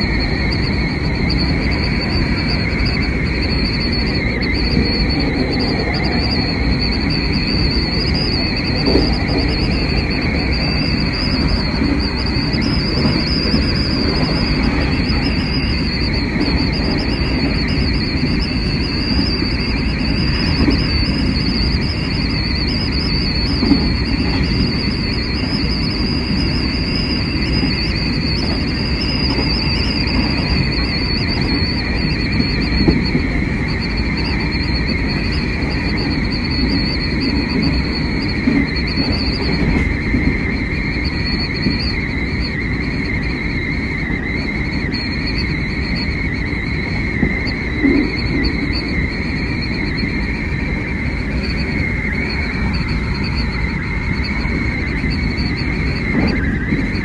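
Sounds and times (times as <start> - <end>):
high electric whine: 0.0 - 57.0
train wheels rumbling on rail: 0.0 - 57.0.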